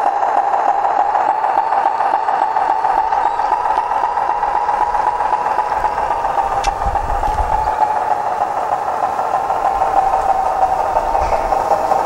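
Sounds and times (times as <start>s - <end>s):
diesel engine sound from speaker: 0.0s - 12.0s.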